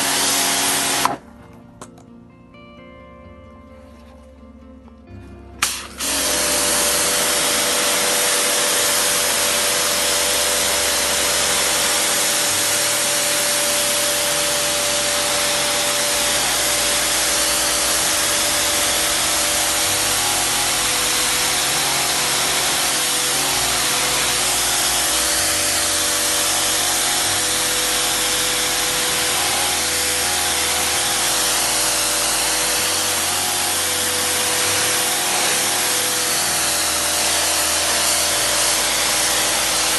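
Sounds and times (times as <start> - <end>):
pressure washer motor whine: 0.0 - 1.2, 5.6 - 39.9
pressure washer water jet hissing: 0.0 - 1.2, 5.6 - 39.9.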